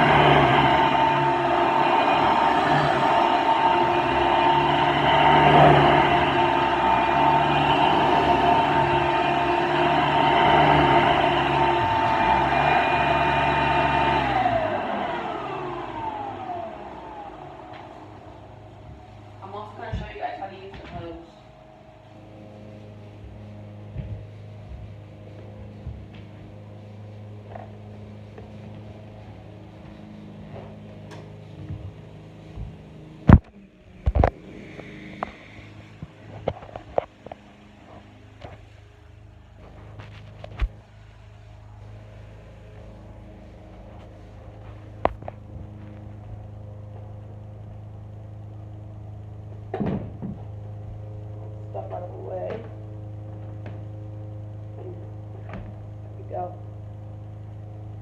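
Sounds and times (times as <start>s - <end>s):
vacuum cleaner motor humming: 0.0s - 51.6s.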